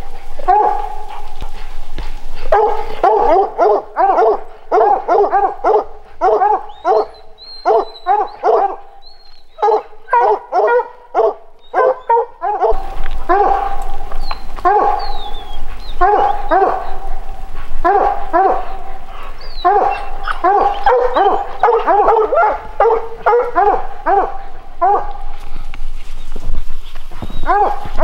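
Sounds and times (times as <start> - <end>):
hounds barking: 0.0 - 25.7, 27.1 - 28.0.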